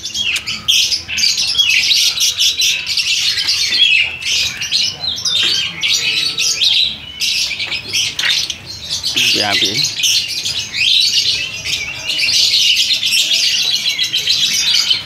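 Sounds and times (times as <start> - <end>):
lovebirds chirping and squawking: 0.0 - 15.0.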